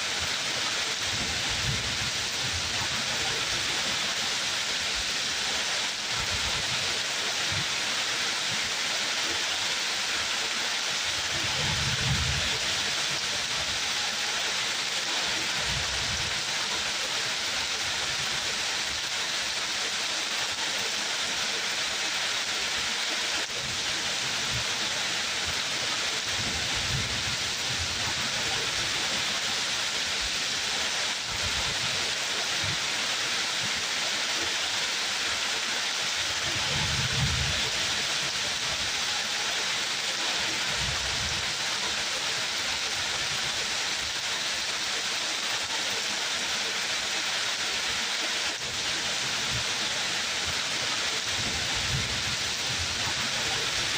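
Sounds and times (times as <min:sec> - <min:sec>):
rainfall hiss: 0:00.0 - 0:53.9.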